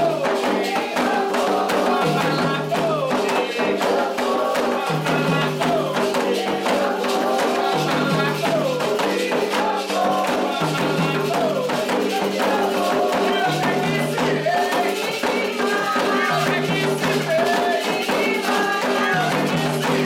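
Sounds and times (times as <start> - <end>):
group singing: 0.0 - 20.0
hand drums: 0.0 - 20.0.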